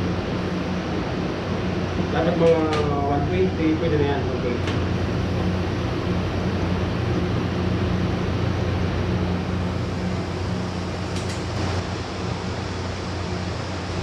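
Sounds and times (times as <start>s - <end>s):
air conditioner compressor and fan hum: 0.0s - 14.0s.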